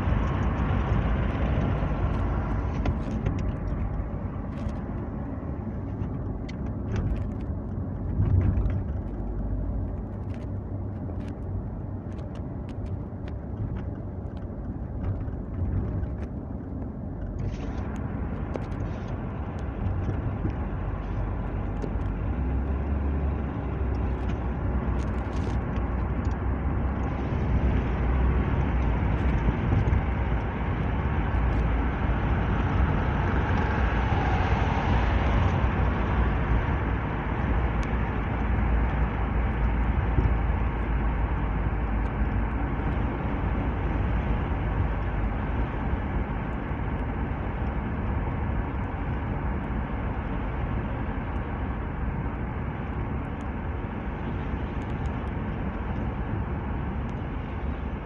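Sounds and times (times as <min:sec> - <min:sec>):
car engine and tyre hum: 0:00.0 - 0:58.0.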